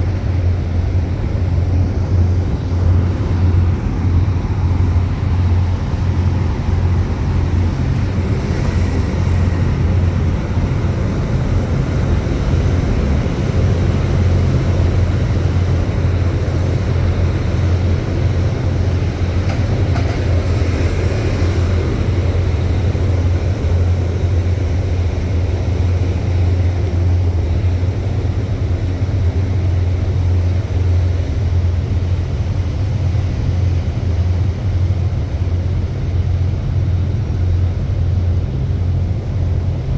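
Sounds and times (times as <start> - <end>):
city street traffic rumble: 0.0 - 39.9.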